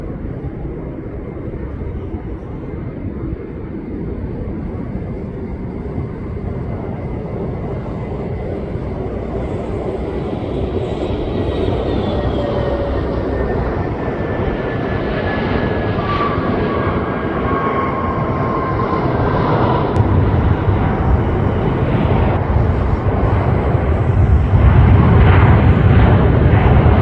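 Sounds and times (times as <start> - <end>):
faint high whine: 0.0 - 22.8
jet engine rumble: 0.0 - 27.0.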